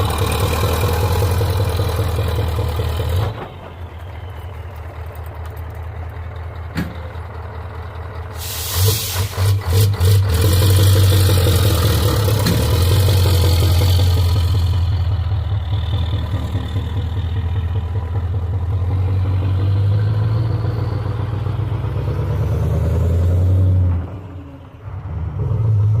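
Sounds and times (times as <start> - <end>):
diesel truck engine revving: 0.0 - 26.0.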